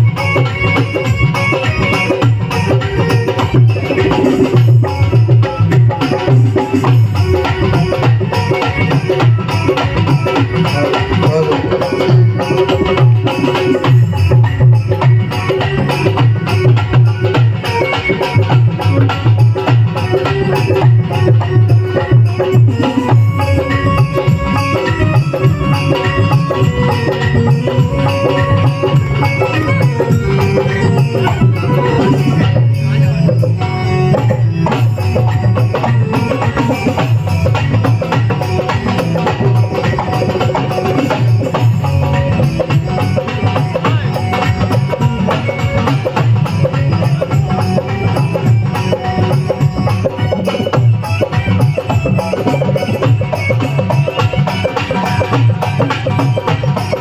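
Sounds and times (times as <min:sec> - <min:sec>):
accompanying music: 0:00.0 - 0:57.0
hand drum fast rhythm: 0:00.0 - 0:57.0.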